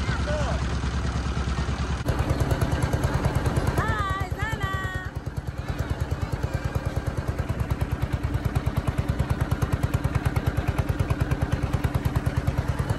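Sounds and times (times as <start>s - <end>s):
boat engine pulsing: 0.0s - 12.9s.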